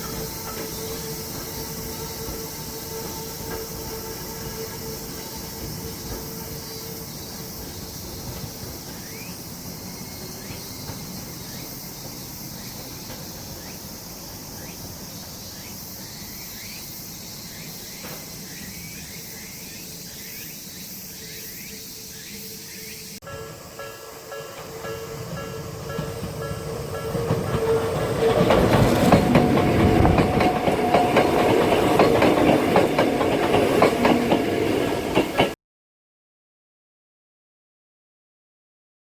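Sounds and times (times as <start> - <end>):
insect chorus: 0.0 - 35.5.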